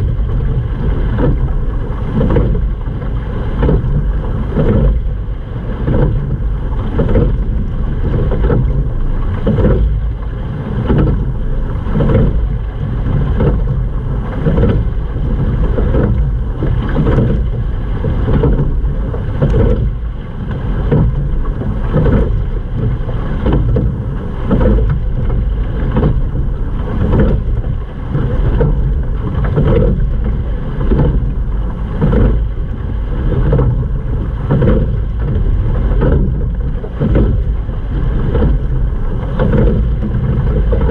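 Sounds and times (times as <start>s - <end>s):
water rushing along a hull: 0.0s - 40.9s
wind rumble on microphone: 0.0s - 40.9s.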